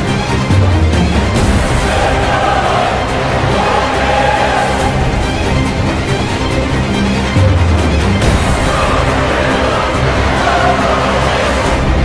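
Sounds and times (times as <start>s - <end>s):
soundtrack music of held notes: 0.0s - 12.0s.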